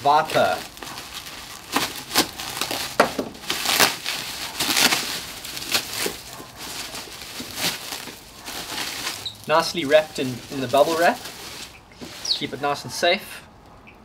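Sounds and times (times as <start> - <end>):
bubble wrap crinkling: 0.0 - 12.8.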